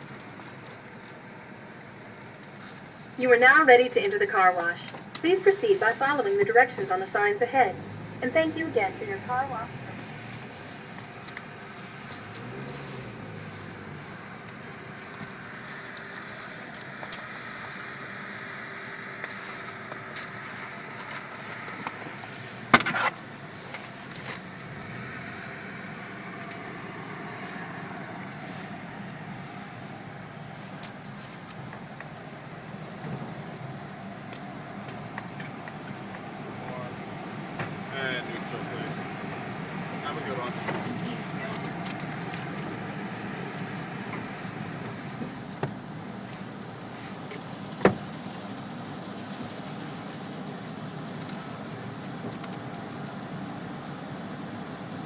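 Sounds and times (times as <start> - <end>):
car engine humming: 0.0 - 55.0.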